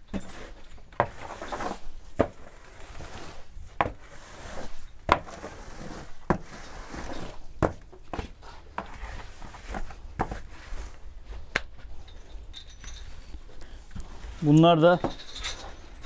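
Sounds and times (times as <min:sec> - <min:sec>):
scraping: 0:00.0 - 0:16.0.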